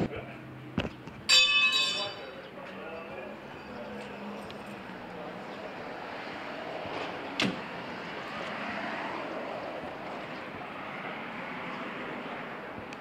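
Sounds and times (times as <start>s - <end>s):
vehicles running: 0.0s - 13.0s.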